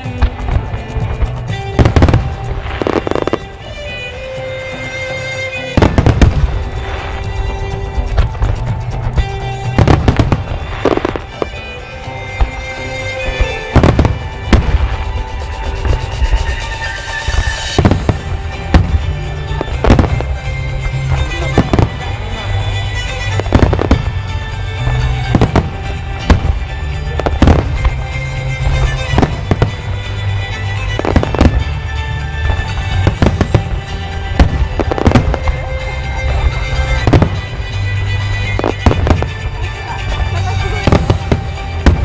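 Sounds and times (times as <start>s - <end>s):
fireworks shells bursting: 0.0s - 42.0s
music playing: 0.0s - 42.0s.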